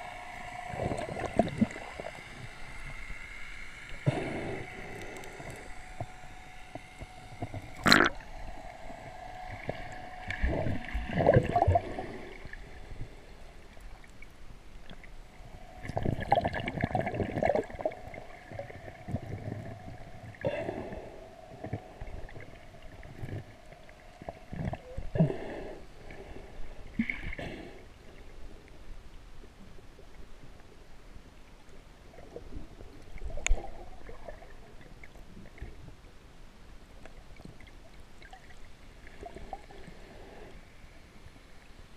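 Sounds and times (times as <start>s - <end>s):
faint steady whine: 0.0s - 41.9s
water gurgling and sloshing: 0.0s - 41.9s.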